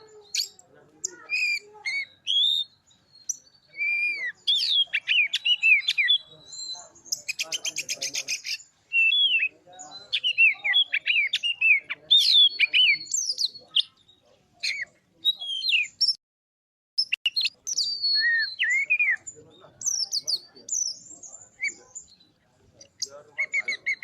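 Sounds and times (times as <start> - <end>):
bird singing whistled notes: 0.2 - 16.2, 17.0 - 24.0.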